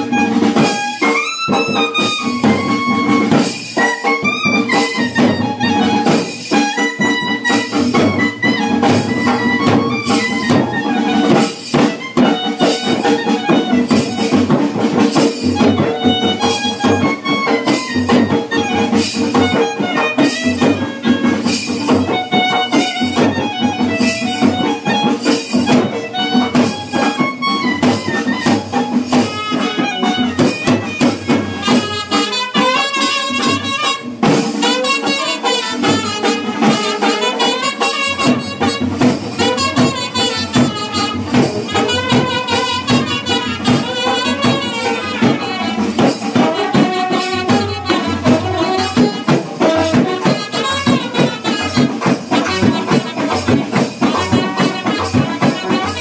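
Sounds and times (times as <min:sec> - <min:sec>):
brass band playing: 0:00.0 - 0:56.0
drum steady beat: 0:00.0 - 0:56.0.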